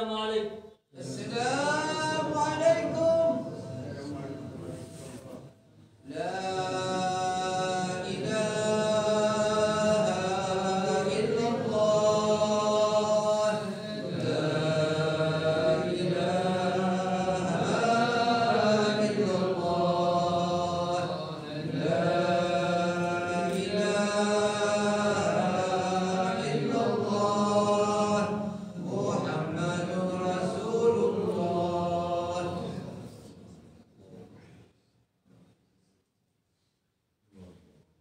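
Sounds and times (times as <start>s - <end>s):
man chanting call to prayer: 0.0s - 33.3s.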